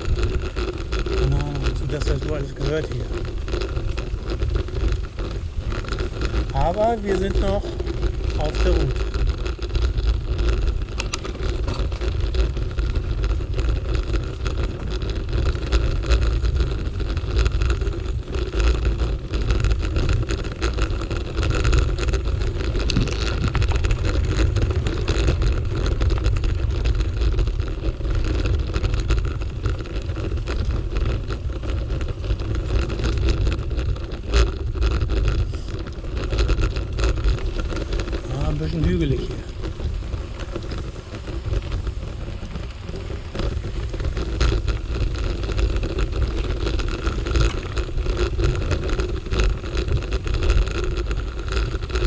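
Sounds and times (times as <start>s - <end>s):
bicycle rattling: 0.0s - 52.0s
tyre rumble on dirt: 0.0s - 52.0s
wind on microphone: 0.0s - 52.0s.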